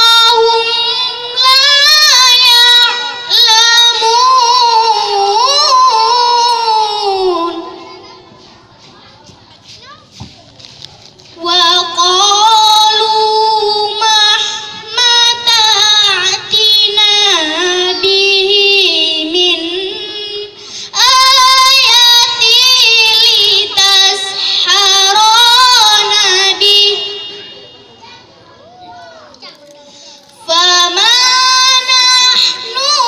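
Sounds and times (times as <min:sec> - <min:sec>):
girl chanting melodically: 0:00.0 - 0:10.3, 0:11.3 - 0:28.2, 0:29.6 - 0:33.0.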